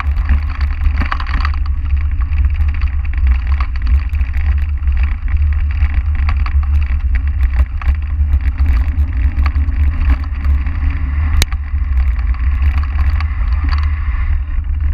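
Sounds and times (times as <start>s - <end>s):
bicycle rattles and clicks: 0.0s - 14.9s
wind rumbling on microphone: 0.0s - 14.9s.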